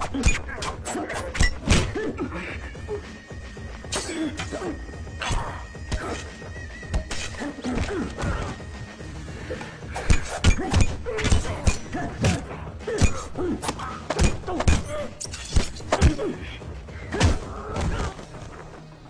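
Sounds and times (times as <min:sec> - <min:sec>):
dramatic music score: 0:00.0 - 0:19.0.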